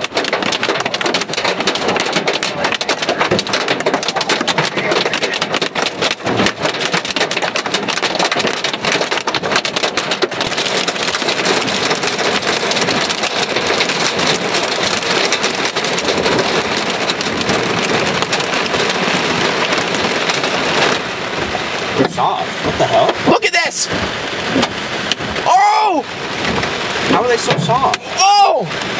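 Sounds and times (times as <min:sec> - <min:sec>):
hail and rain on car roof: 0:00.0 - 0:28.9.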